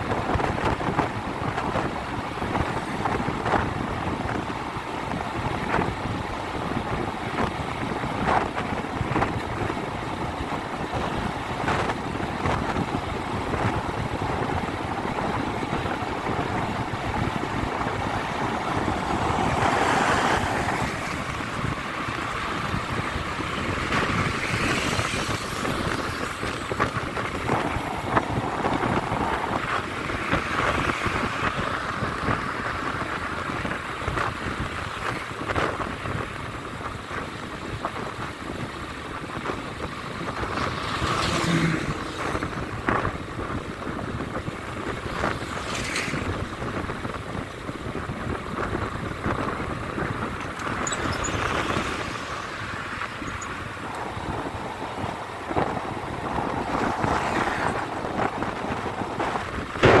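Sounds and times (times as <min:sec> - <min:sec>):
passing vehicles: 0:00.0 - 1:00.0
road and engine noise: 0:00.0 - 1:00.0
wind rushing over microphone: 0:00.0 - 1:00.0.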